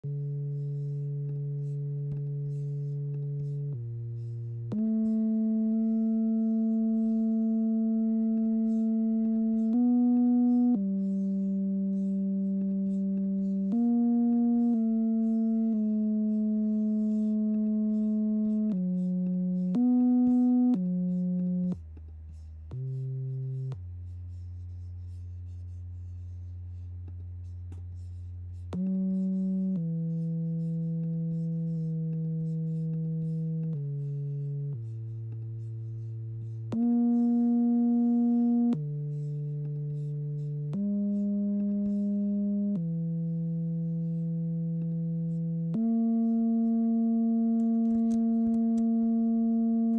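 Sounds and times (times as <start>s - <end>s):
steady electronic notes: 0.1s - 22.0s, 28.7s - 49.9s.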